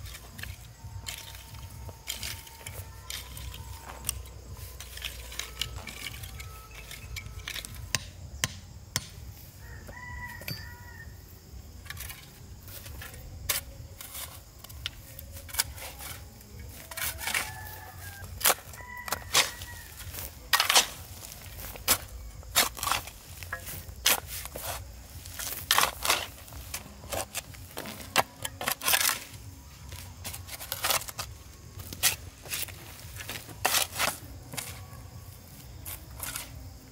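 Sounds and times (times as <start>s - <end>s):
hoe striking stony soil: 0.0s - 9.2s, 11.8s - 34.9s, 35.8s - 36.9s.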